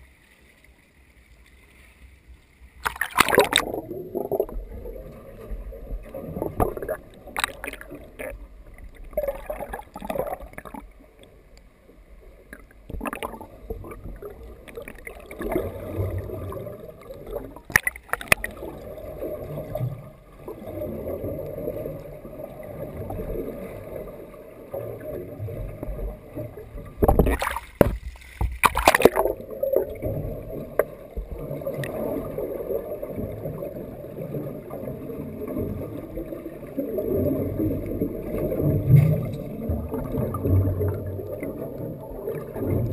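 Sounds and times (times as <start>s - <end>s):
underwater sloshing and bubbling: 0.0s - 42.9s.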